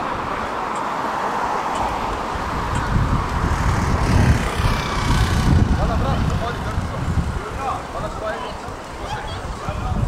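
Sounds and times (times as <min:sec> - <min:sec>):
city traffic noise: 0:00.0 - 0:10.0.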